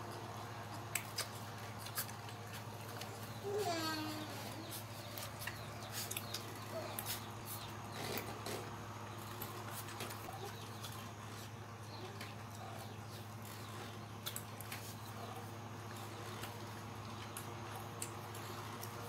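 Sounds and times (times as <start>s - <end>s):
steady low hum: 0.0s - 19.0s
paws clicking on concrete: 0.6s - 3.5s, 4.5s - 19.0s.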